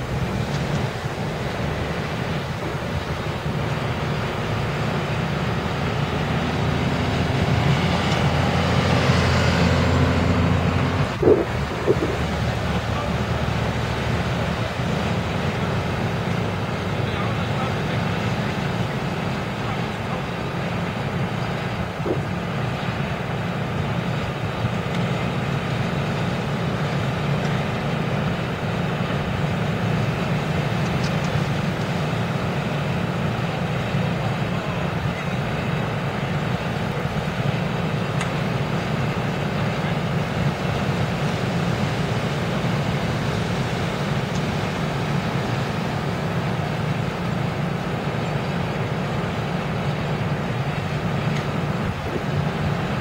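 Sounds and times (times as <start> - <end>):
vehicle engine rumbling: 0.0 - 53.0.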